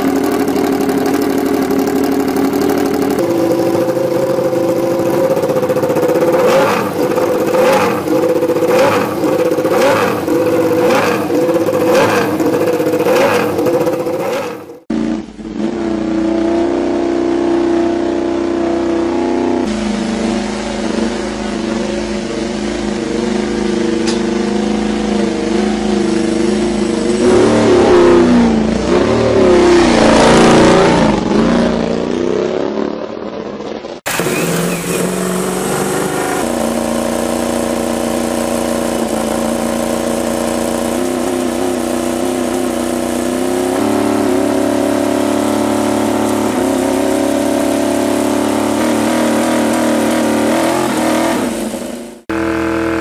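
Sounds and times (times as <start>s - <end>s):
racing motorcycle engine revving: 0.0s - 53.0s.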